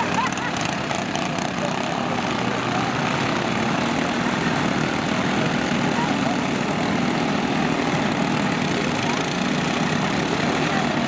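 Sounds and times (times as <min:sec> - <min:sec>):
lawn tractor engines running: 0:00.0 - 0:11.0
voices: 0:00.0 - 0:11.0.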